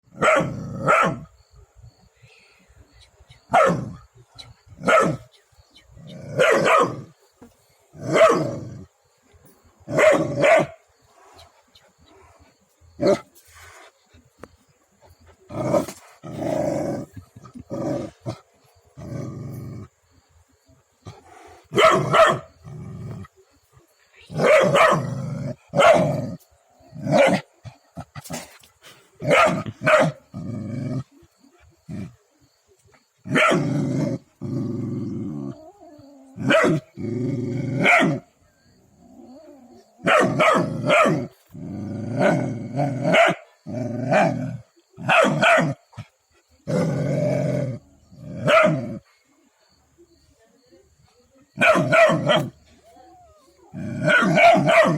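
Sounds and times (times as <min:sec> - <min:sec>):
dog barking and growling: 0:00.1 - 0:01.4, 0:03.4 - 0:05.3, 0:06.0 - 0:07.2, 0:08.0 - 0:09.0, 0:09.6 - 0:14.2, 0:15.0 - 0:20.1, 0:21.0 - 0:23.6, 0:24.2 - 0:32.3, 0:33.1 - 0:49.2, 0:51.6 - 0:54.9.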